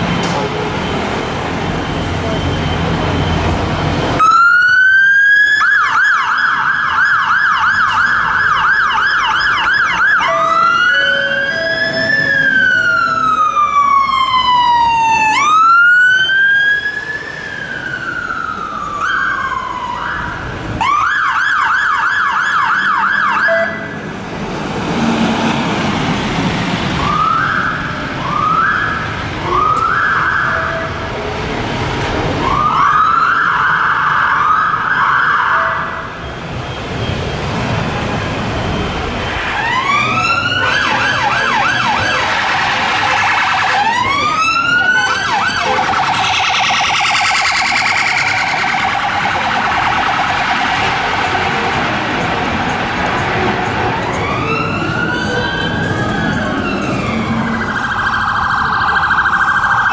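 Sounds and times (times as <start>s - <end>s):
fire engine sirens: 0.0s - 59.9s.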